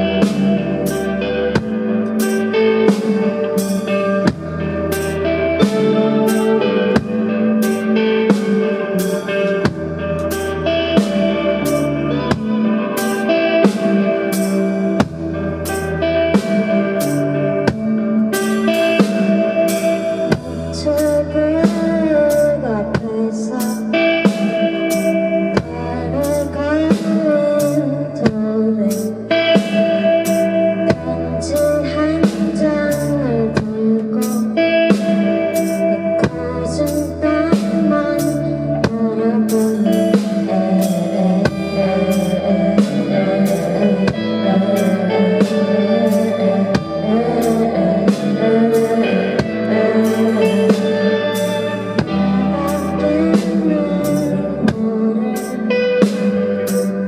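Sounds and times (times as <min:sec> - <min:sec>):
bass: 0:00.0 - 0:57.0
drum kit: 0:00.0 - 0:57.0
guitar: 0:00.0 - 0:57.0
person singing: 0:00.0 - 0:57.0.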